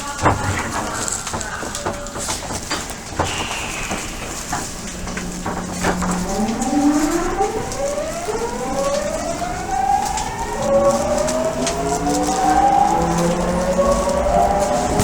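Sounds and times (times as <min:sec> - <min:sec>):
train inverter whining: 0:00.0 - 0:15.0.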